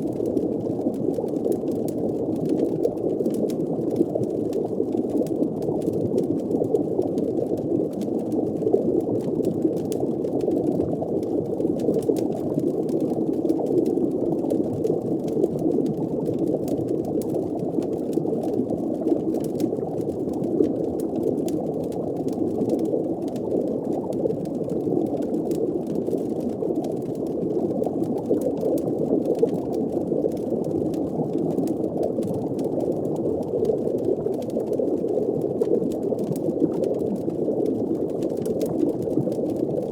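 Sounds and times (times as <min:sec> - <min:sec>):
faint fire crackles: 0:00.0 - 0:39.9
muffled bubbling rumble: 0:00.0 - 0:39.9.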